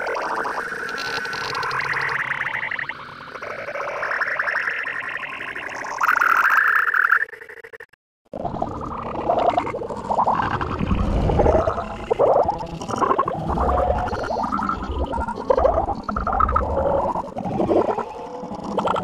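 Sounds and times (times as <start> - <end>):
distorted warbling gurgling sounds: 0.0 - 19.0.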